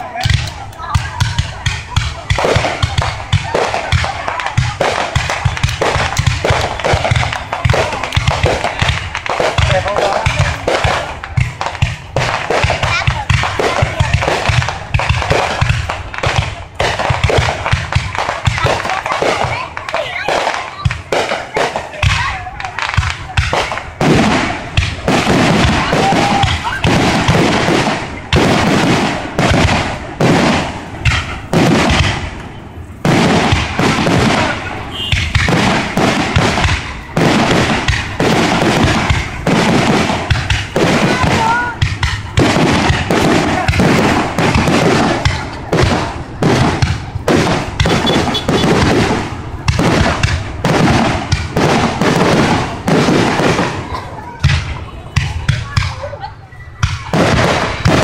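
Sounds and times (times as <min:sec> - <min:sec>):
fireworks booming: 0:00.0 - 0:58.0
fireworks crackling: 0:00.0 - 0:58.0.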